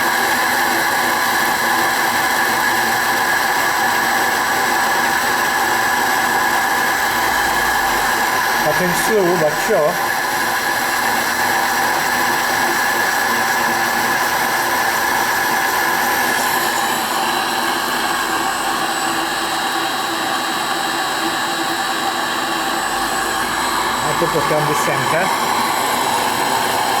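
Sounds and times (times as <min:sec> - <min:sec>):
lathe cutting steel whine: 0:00.0 - 0:27.0.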